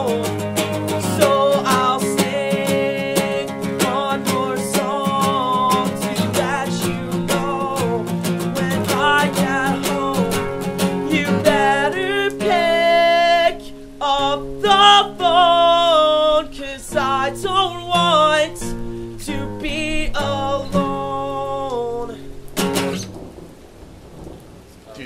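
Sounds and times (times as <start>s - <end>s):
man singing: 0.0s - 22.3s
acoustic guitar strumming: 0.0s - 23.2s.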